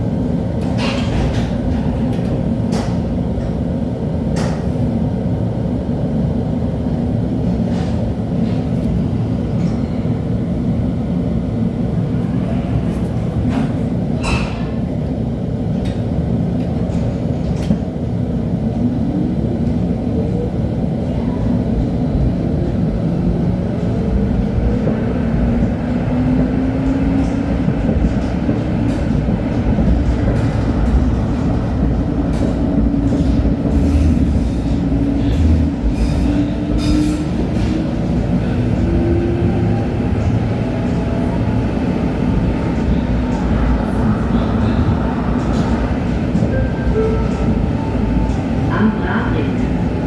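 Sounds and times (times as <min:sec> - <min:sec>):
light-rail wheels rumbling: 0:00.0 - 0:50.0.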